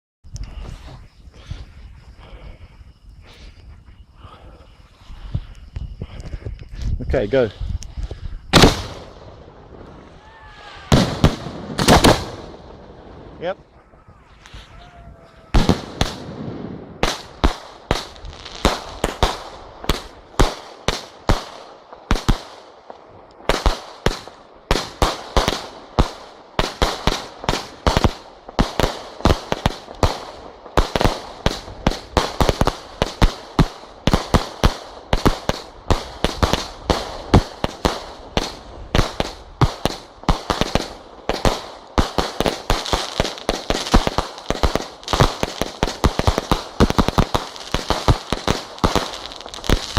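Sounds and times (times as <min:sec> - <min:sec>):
fireworks bangs: 0:08.5 - 0:49.9.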